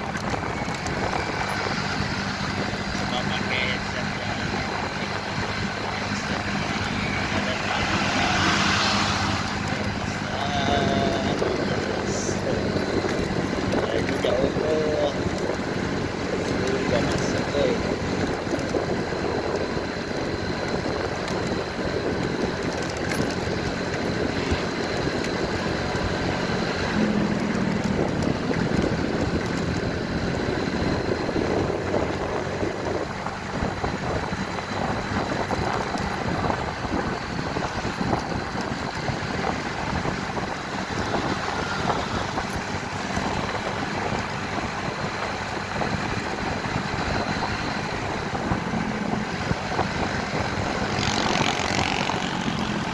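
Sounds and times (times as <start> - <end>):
motorcycle engine running: 0.0 - 52.9
wind and road noise: 0.0 - 52.9.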